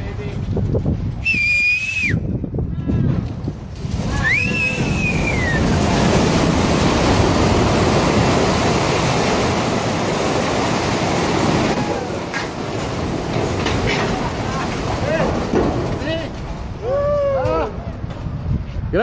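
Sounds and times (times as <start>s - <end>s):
concrete rubble collapsing roar: 0.0s - 19.0s.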